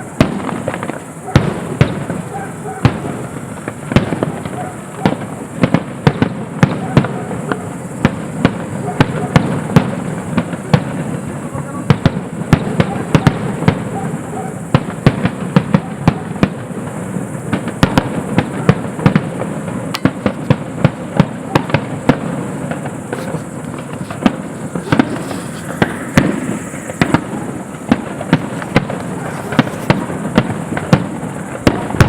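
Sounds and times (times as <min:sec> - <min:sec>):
fireworks bangs and cracks: 0:00.0 - 0:32.0.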